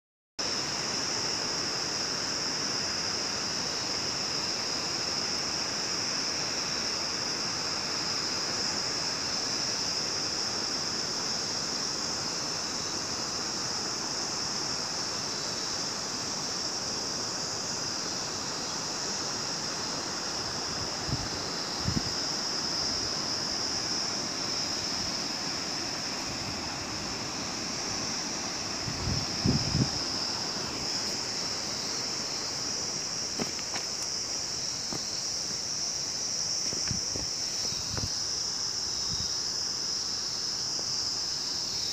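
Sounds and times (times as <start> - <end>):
mountain stream rushing: 0.4 - 37.5.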